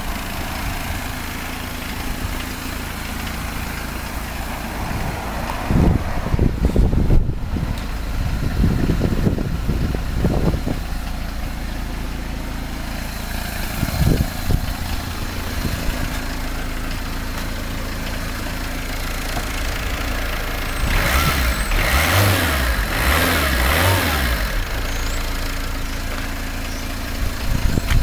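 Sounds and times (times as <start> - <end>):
diesel engine idling: 0.0 - 28.0
engine knocks: 0.0 - 28.0.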